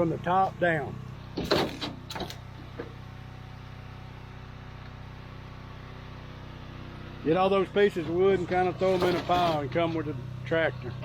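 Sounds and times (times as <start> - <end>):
pressure washer motor humming: 0.0 - 11.0.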